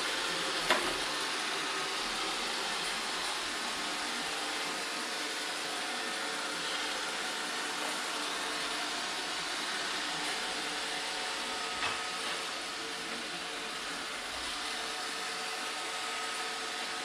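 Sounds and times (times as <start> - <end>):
robot vacuum running: 0.0 - 17.0.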